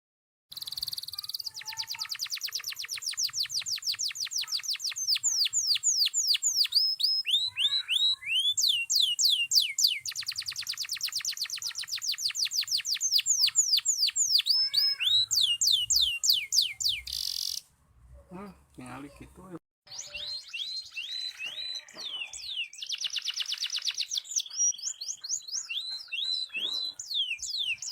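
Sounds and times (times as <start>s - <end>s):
canary singing trills: 0.5s - 17.7s, 19.9s - 27.9s.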